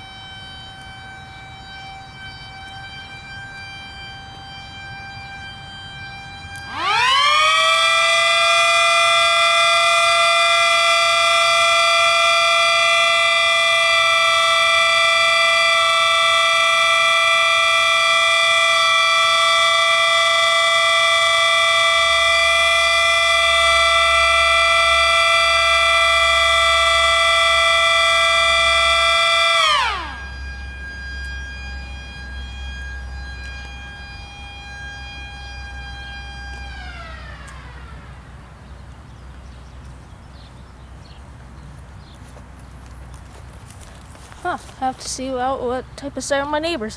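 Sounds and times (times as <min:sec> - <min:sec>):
close siren chord: 0:00.0 - 0:39.8
distant siren tone: 0:00.0 - 0:46.9.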